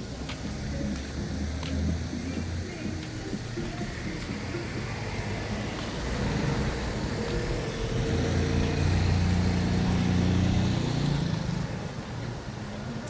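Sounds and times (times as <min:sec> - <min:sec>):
street background noise: 0:00.0 - 0:13.0
vehicle engine humming: 0:00.0 - 0:13.0.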